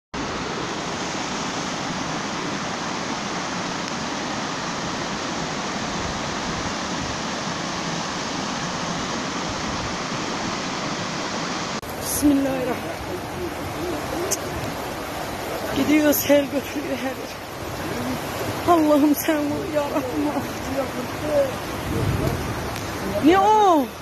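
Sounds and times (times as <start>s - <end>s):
floodwater rushing over stones: 0.2s - 24.0s.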